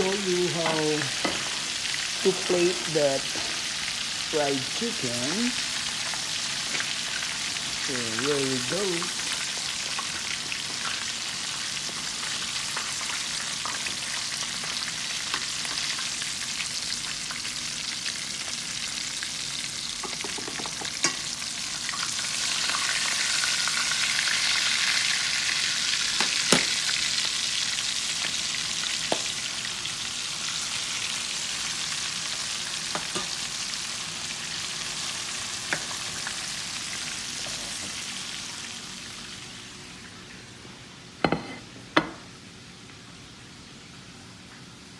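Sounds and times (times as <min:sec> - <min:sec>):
chicken deep-frying in oil: 0:00.0 - 0:40.9.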